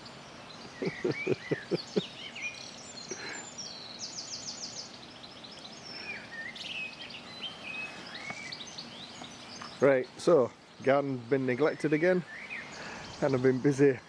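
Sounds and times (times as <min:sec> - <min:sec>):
songbirds singing and chirping: 0:00.0 - 0:14.0.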